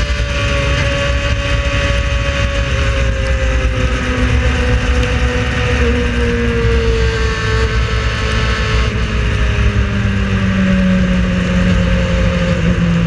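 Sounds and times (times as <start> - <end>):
racing car engine rumble: 0.0 - 13.0.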